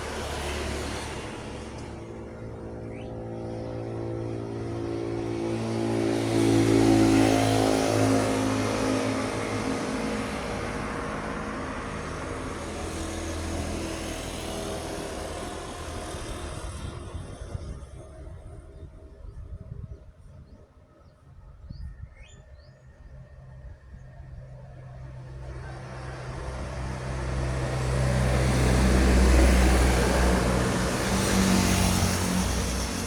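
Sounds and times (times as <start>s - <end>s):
large truck passing: 0.0s - 18.4s, 23.2s - 33.0s.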